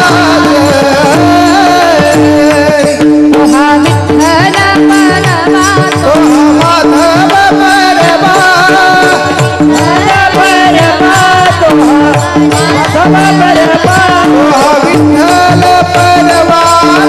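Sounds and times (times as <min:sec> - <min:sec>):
person singing devotional melody: 0:00.0 - 0:17.0.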